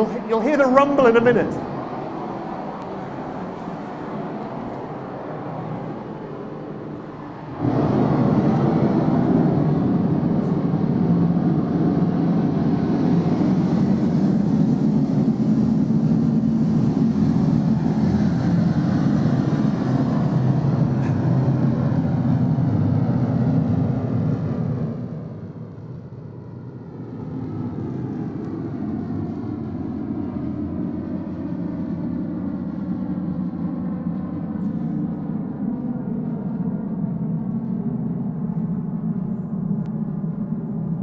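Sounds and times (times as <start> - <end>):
rocket engines rumbling: 0.0 - 41.0.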